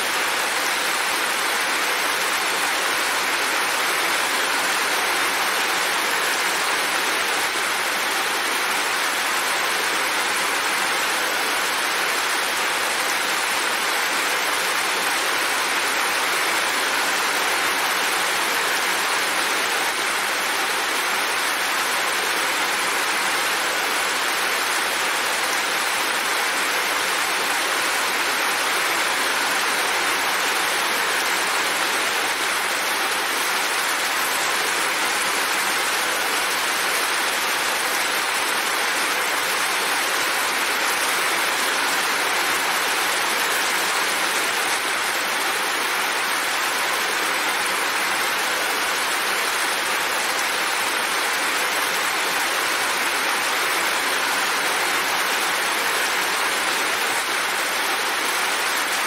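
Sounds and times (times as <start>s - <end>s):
heavy rain: 0.0s - 59.0s
water streaming off roof: 0.0s - 59.0s.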